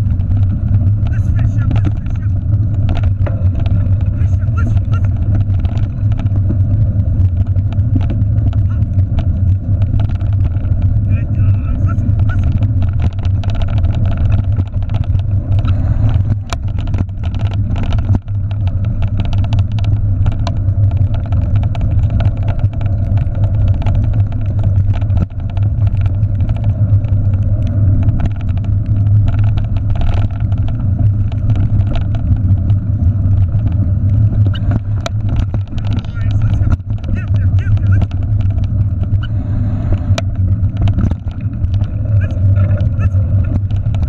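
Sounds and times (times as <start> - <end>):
bike clicks and rattles: 0.0 - 44.0
wind and trail rumble: 0.0 - 44.0.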